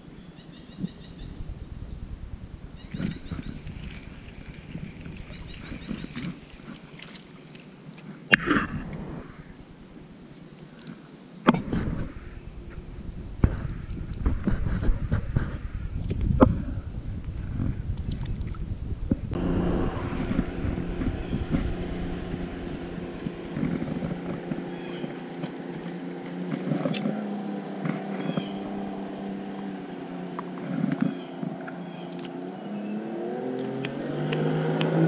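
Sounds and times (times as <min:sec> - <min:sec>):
motorboat engine running: 0:00.8 - 0:07.6, 0:11.5 - 0:35.0.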